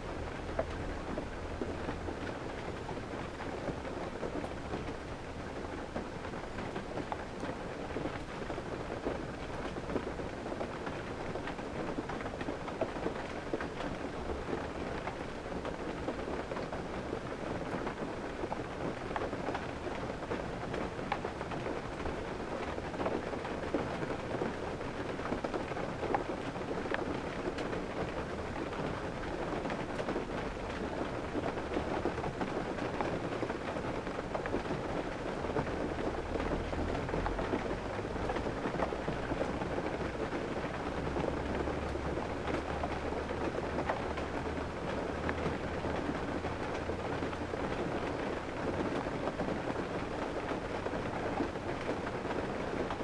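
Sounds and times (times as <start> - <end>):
rain pattering on car roof: 0.0 - 53.0.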